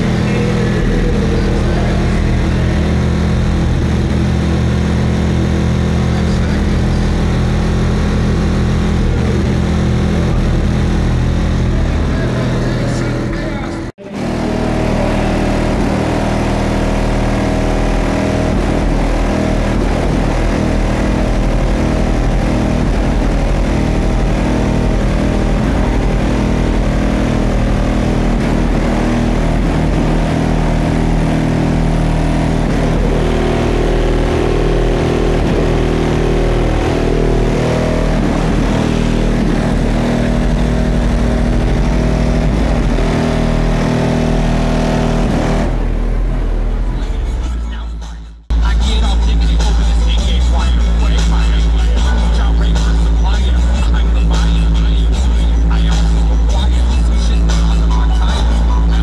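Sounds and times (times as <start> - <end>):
subwoofer playing heavy bass: 0.0 - 59.0.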